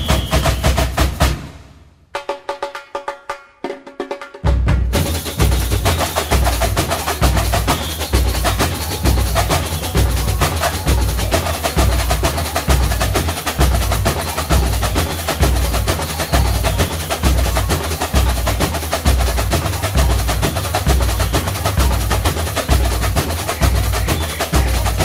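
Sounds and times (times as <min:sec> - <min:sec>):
deep bass drum beats: 0:00.0 - 0:01.5, 0:04.5 - 0:25.0
fast snare drum strokes: 0:00.0 - 0:25.0.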